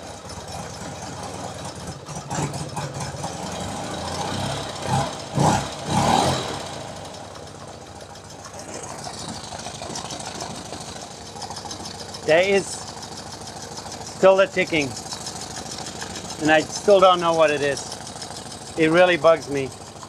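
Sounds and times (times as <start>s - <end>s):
engine ticking: 0.0s - 20.0s
motorcycle engine idling: 0.0s - 20.0s.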